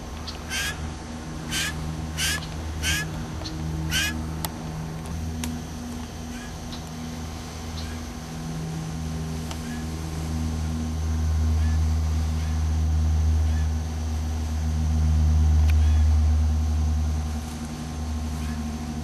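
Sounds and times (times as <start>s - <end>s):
low engine-like rumble with hum: 0.0s - 19.0s.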